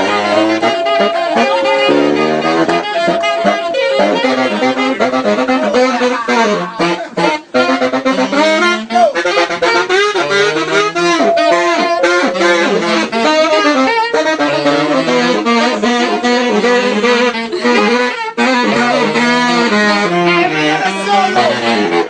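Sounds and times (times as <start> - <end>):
saxophone playing fast runs: 0.0 - 22.0.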